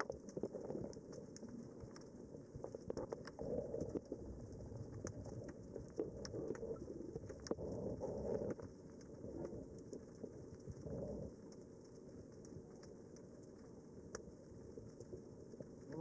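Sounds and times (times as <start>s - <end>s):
sharp clicks and crackles: 0.0s - 16.0s
underwater rumble of water: 0.0s - 16.0s.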